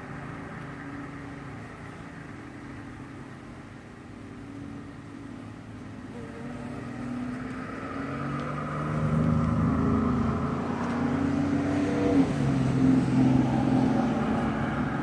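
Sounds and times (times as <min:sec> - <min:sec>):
honeybees buzzing: 0:00.7 - 0:15.0.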